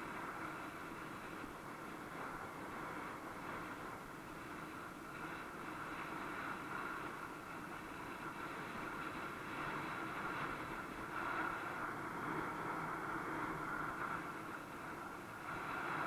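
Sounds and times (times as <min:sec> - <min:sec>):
bike tyre hum on asphalt: 0:00.0 - 0:16.0.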